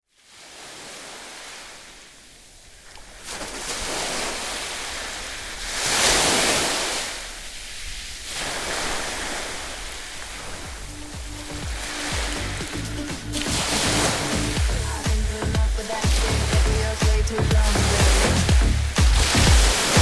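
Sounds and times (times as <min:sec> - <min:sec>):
heavy surf waves crashing: 0:00.2 - 0:20.0.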